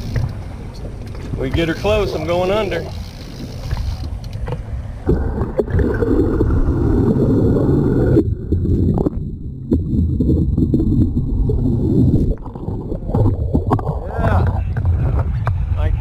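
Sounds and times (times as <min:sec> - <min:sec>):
underwater rushing and gurgling: 0:01.9 - 0:15.8.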